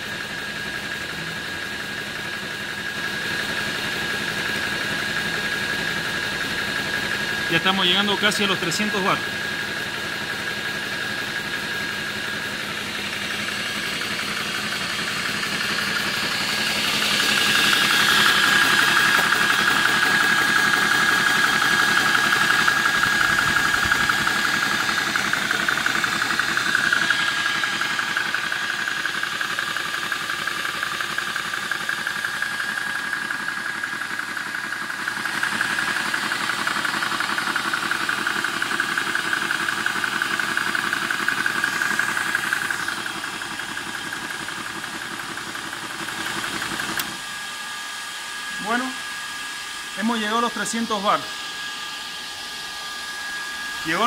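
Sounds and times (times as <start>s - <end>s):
air compressor pumping: 0.0s - 54.0s.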